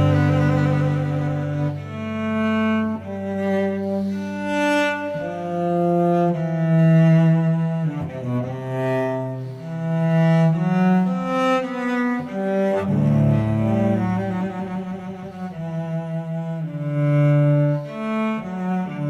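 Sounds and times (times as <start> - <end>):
slow low bowed string melody: 0.0 - 19.0.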